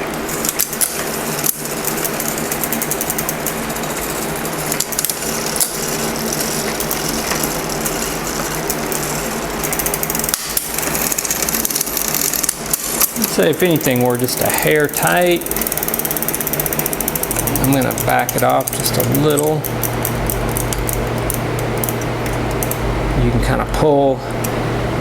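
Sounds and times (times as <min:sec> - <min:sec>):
bicycle chain rattling: 0:00.1 - 0:22.9.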